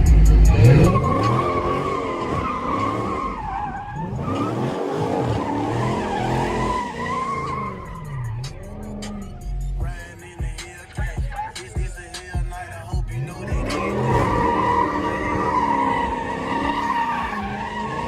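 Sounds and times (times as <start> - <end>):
tires squealing: 0.0 - 10.2, 12.1 - 18.0
car engine revving: 0.0 - 18.0.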